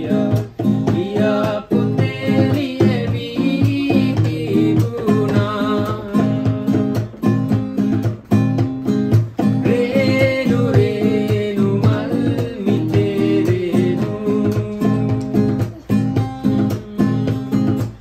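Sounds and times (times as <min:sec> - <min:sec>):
man singing: 0:00.0 - 0:08.0, 0:09.4 - 0:18.0
guitar strumming chords: 0:00.0 - 0:18.0.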